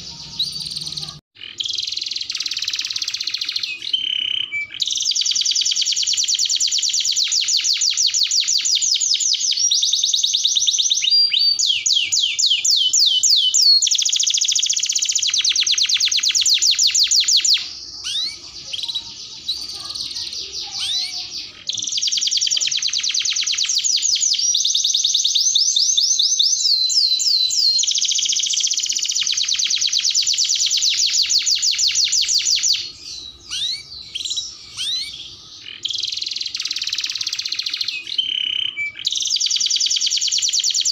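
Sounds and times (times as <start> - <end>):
canary trilling song: 0.0 - 40.9.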